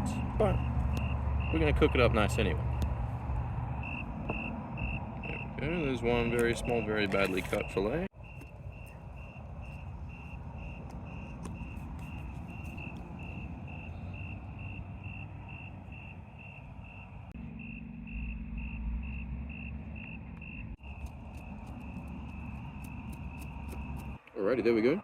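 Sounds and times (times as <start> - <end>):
cricket chirping: 0.0 - 24.2.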